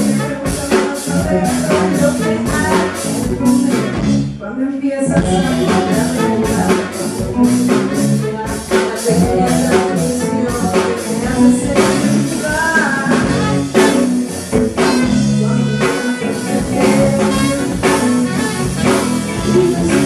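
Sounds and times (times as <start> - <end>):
saxophone: 0.0 - 4.2, 5.2 - 20.0
drum kit: 0.0 - 4.4, 5.1 - 20.0
electric bass: 0.0 - 20.0
woman singing: 0.0 - 20.0.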